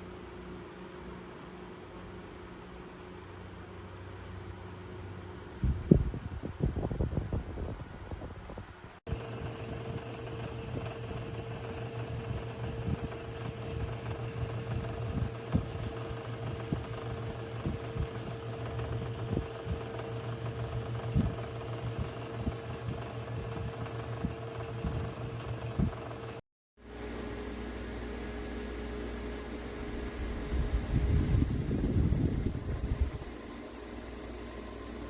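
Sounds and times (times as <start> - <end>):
electric fan whirring: 1.9 - 35.0.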